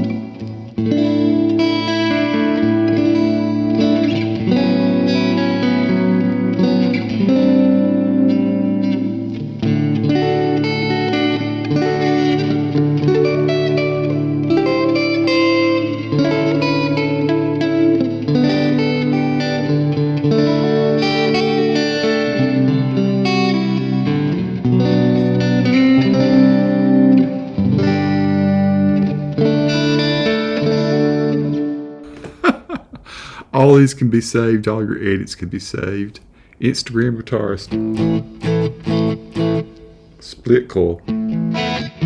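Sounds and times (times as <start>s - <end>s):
electric guitar chords and notes: 0.0s - 33.4s, 37.7s - 42.0s.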